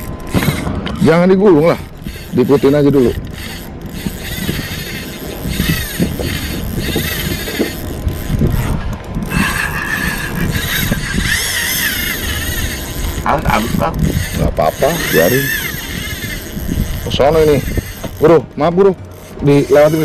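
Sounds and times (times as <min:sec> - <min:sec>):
fishing reel drag buzzing: 0:00.0 - 0:20.0.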